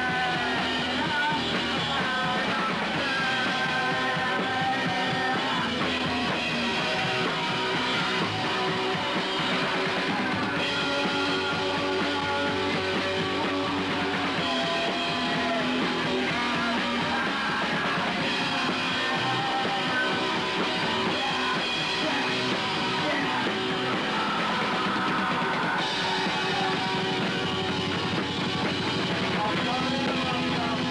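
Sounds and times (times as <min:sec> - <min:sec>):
drum kit: 0:00.0 - 0:30.9
electric guitar: 0:00.0 - 0:30.9.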